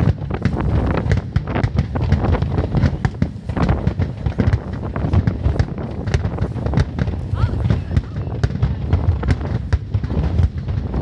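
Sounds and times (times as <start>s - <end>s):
constant low rumble: 0.0s - 11.0s
fireworks bangs and crackles: 0.0s - 11.0s.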